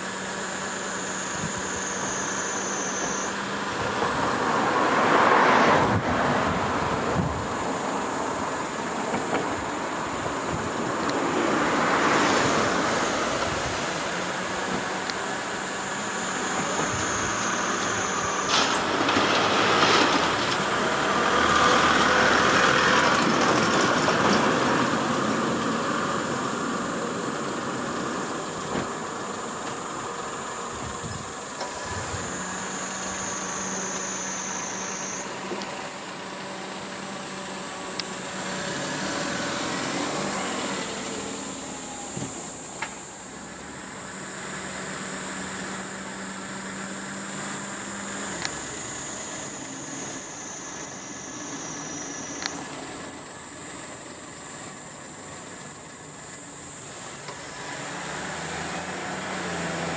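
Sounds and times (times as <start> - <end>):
vehicle passing rush: 0.0 - 59.9.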